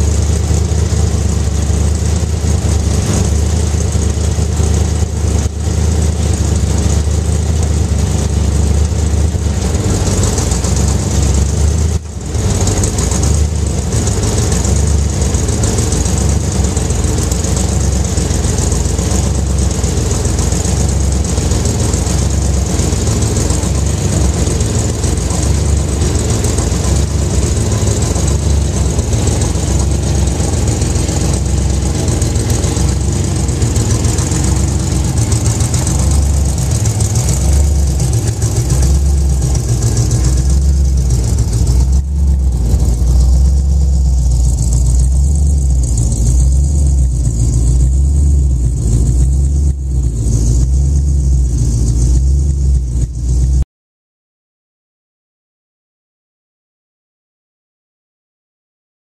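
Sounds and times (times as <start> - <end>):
car engine idling roughly: 0.0 - 53.6.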